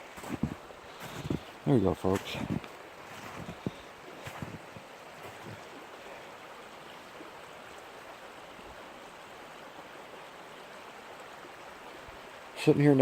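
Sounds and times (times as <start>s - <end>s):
creek rippling over rocks: 0.0s - 13.0s.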